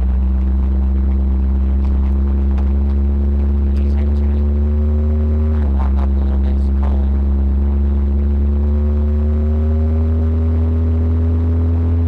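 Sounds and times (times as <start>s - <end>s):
car engine drone from inside: 0.0s - 12.0s.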